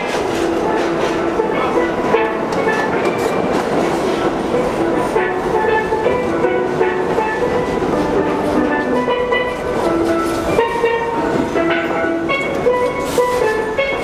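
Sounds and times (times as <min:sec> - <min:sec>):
steel pan music: 0:00.0 - 0:14.0
subway train rumbling: 0:00.0 - 0:14.0.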